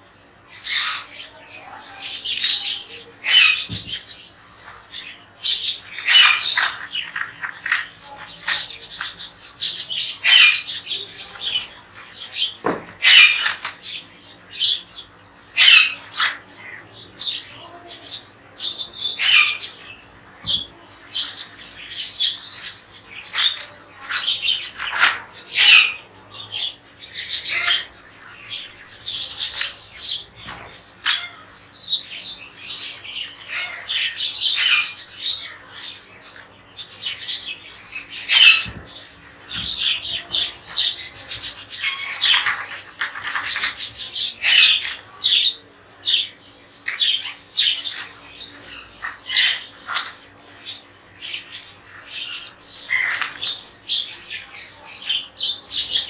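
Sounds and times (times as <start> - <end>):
parrots squawking and chirping: 0.5 - 56.0.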